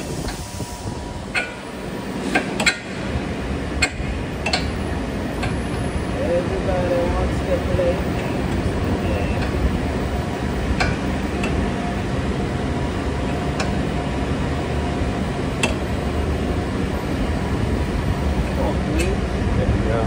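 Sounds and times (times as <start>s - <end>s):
garage background hum: 0.0s - 20.0s.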